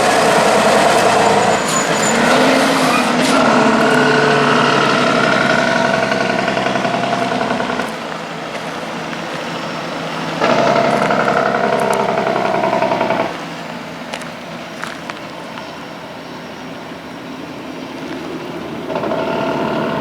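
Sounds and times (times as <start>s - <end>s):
low engine rumble: 0.0s - 20.0s
truck diesel engine pulsing: 0.0s - 20.0s.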